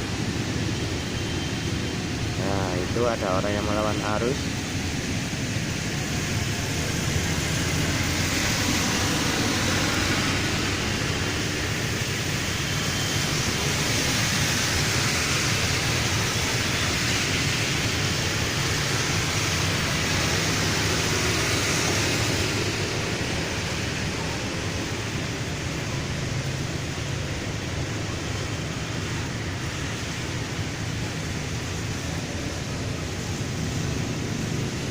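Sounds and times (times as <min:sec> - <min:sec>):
low engine hum: 0:00.0 - 0:34.9
tyres hissing on wet road: 0:00.0 - 0:34.9.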